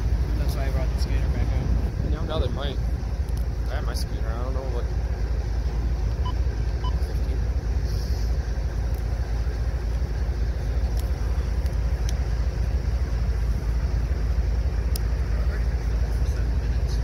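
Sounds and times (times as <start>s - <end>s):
diesel locomotive engine idling: 0.0s - 17.0s.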